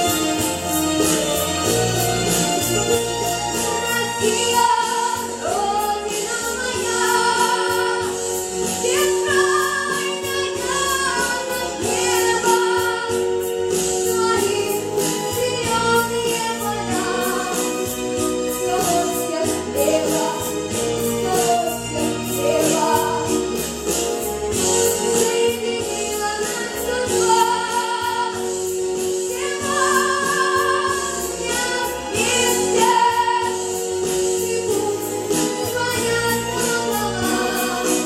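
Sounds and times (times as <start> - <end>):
person singing live: 0.0 - 38.0
pop backing track with beat: 0.0 - 38.0.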